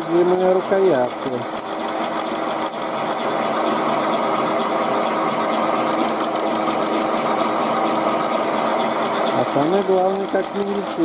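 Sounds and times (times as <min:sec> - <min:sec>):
fast high cutter clicks: 0:00.0 - 0:03.8, 0:05.7 - 0:11.0
milling machine cutting metal: 0:00.0 - 0:11.0.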